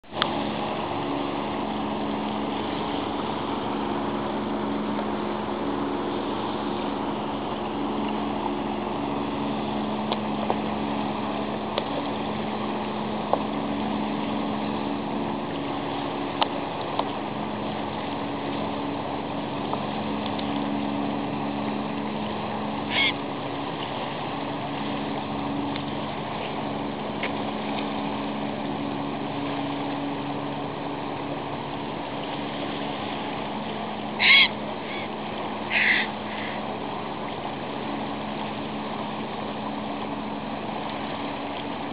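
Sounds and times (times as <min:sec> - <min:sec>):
boat engine humming: 0:00.0 - 0:41.9
water wash: 0:00.0 - 0:41.9.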